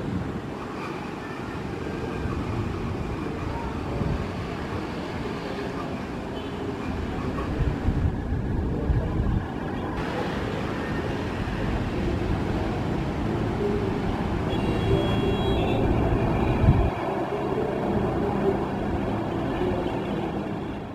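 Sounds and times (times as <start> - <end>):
distant aircraft engines rumbling: 0.0 - 20.9.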